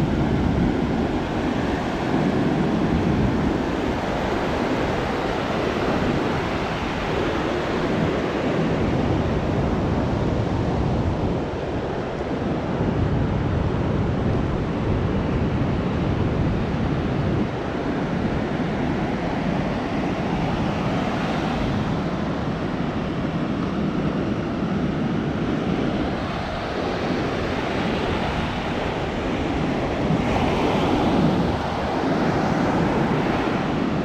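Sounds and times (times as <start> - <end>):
ocean surf breaking on beach: 0.0 - 34.0
wind buffeting microphone: 0.0 - 34.0.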